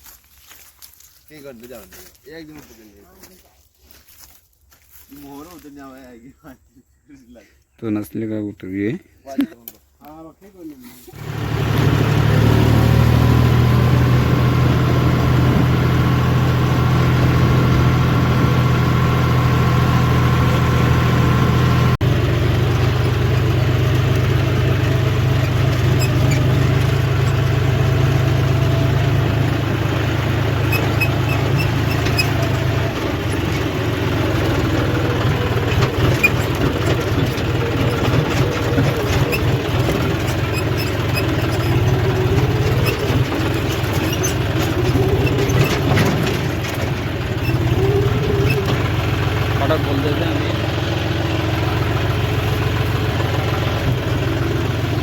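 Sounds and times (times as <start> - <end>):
tractor diesel engine running: 10.9 - 55.0.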